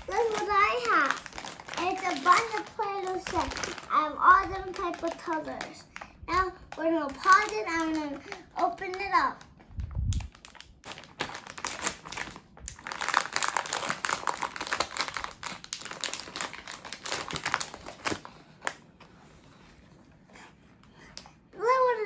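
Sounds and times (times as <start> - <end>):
plastic packaging crinkling: 0.0 - 18.9.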